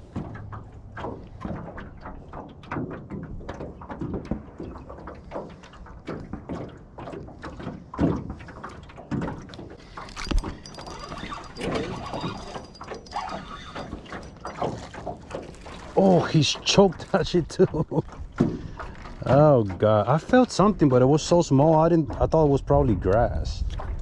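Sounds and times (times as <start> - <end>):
knocks and bumps in a boat: 0.0 - 24.0.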